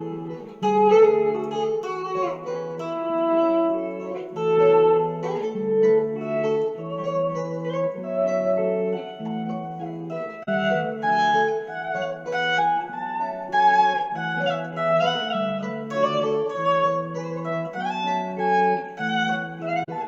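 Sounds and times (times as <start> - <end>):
plucked string instrument music: 0.0 - 20.0.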